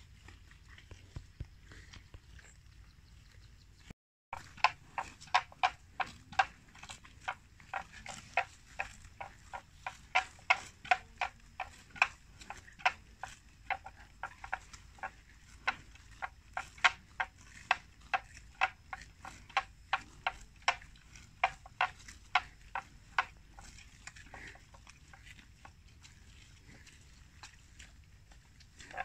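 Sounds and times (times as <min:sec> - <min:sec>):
buffalo chewing plants: 0:00.0 - 0:29.0.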